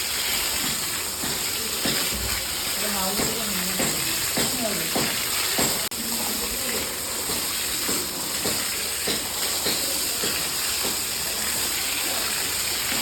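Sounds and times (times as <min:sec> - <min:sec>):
water spraying from a hose: 0:00.0 - 0:13.0.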